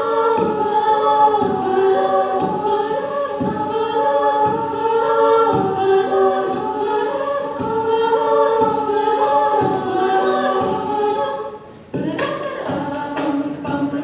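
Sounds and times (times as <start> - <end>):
a cappella group singing chords: 0.0 - 14.0
vocal percussion hi-hat beat: 0.0 - 14.0.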